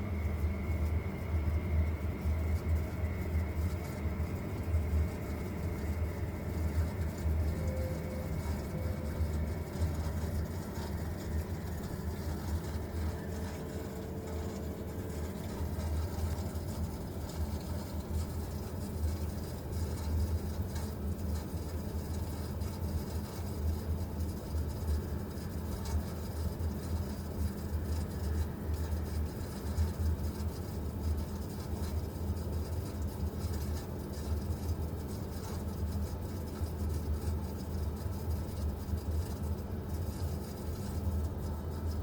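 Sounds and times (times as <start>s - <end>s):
gas boiler fluttering drone: 0.0s - 42.0s.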